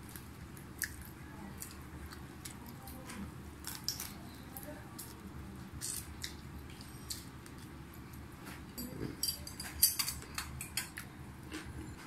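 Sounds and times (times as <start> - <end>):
chewing: 0.0 - 4.3, 5.0 - 12.0.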